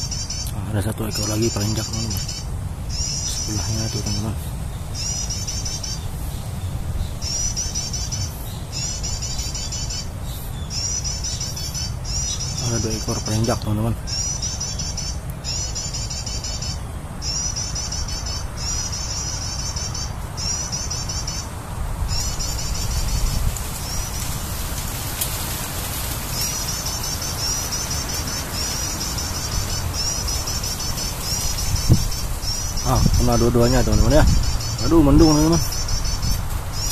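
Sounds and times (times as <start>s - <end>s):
bird high-pitched chirps: 0.0s - 21.5s, 22.1s - 24.4s, 26.3s - 36.9s.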